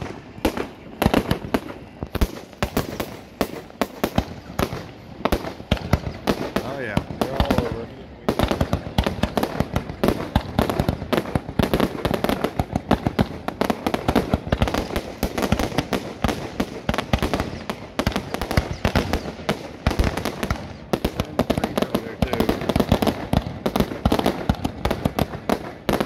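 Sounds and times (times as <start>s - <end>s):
fireworks launching and bursting: 0.0s - 26.0s.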